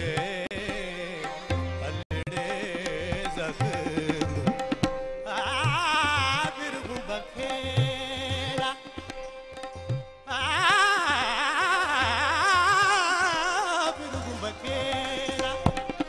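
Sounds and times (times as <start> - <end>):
man singing melodic runs: 0.0 - 9.2, 10.2 - 16.0
tabla strokes: 0.0 - 16.0.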